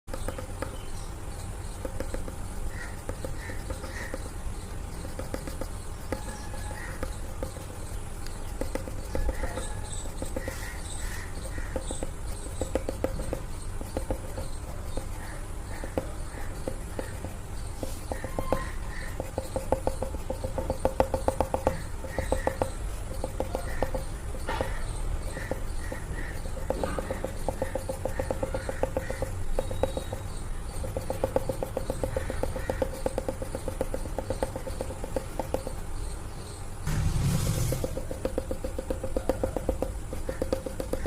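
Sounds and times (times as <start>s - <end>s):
pencil tapping on paper: 0.0s - 41.0s
steady low hum: 0.1s - 41.0s.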